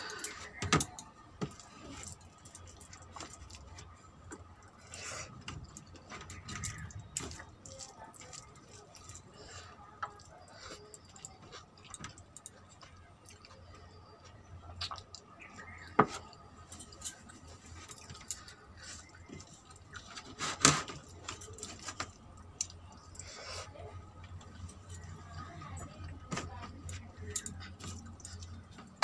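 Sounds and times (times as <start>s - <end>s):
chewing and squishing mouth sounds: 0.0s - 29.0s.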